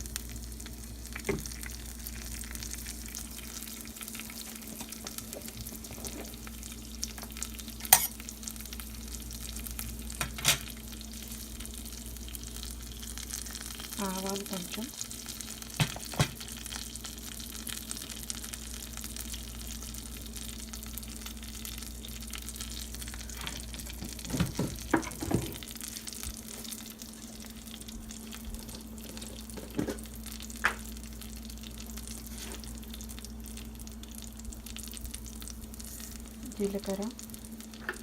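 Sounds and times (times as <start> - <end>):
spices sizzling in hot oil: 0.0 - 38.0.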